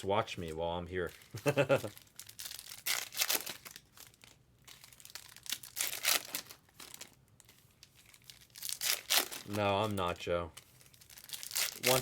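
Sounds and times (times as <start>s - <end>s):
foil wrappers crinkling and tearing: 0.0s - 12.0s.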